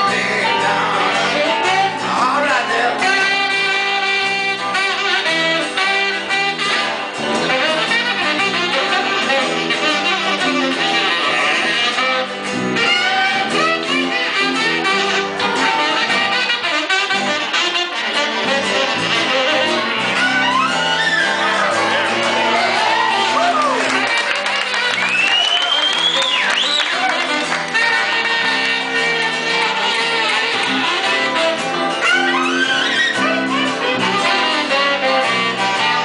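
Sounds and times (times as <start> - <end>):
live blues band: 0.0 - 36.0
saxophone lead: 0.0 - 36.0.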